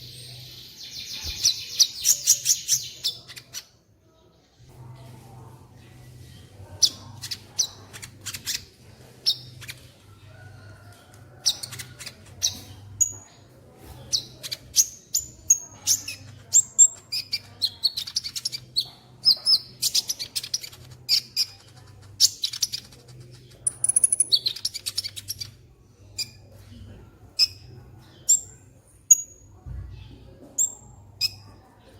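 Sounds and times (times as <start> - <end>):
bird chirping and twittering: 0.0 - 3.8, 6.2 - 25.6, 27.4 - 31.9.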